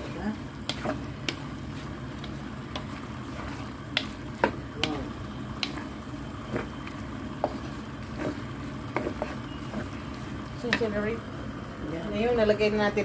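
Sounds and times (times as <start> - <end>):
spatula scraping wok: 0.0 - 11.2
noodles sizzling: 0.0 - 13.0.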